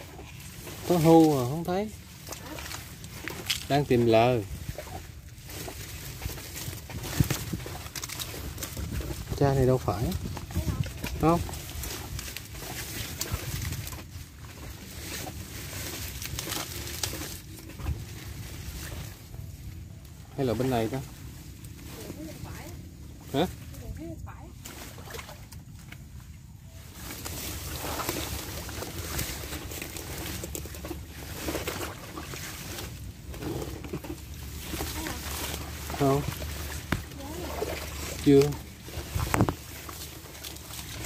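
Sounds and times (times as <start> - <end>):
small crackles: 0.0 - 26.1, 26.8 - 41.0
water plants rustling and swishing: 0.0 - 41.0.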